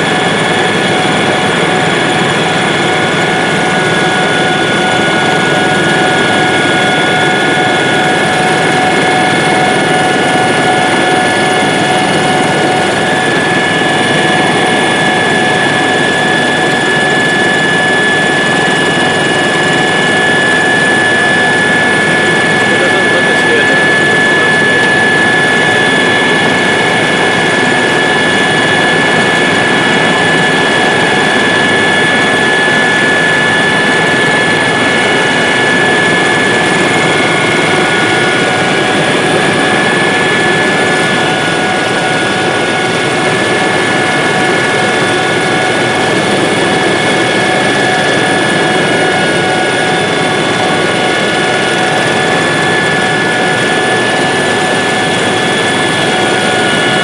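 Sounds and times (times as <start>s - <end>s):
helicopter rotor and engine: 0.0s - 57.0s
high-pitched whine: 0.0s - 57.0s.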